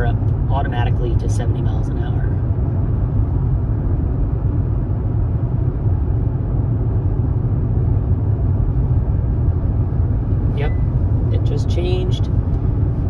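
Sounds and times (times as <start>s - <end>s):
road and tyre rumble in car cabin: 0.0s - 13.0s.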